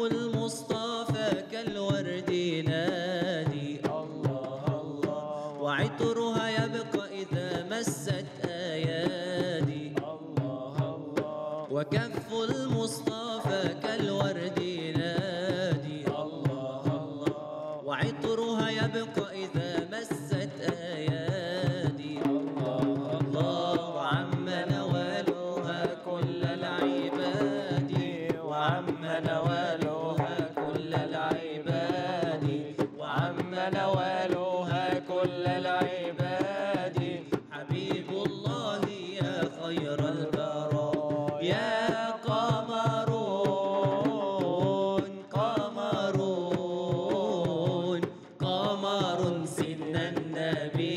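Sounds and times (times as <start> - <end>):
frame drum struck by hand: 0.0 - 50.9
man singing ornamented lines: 0.0 - 50.9.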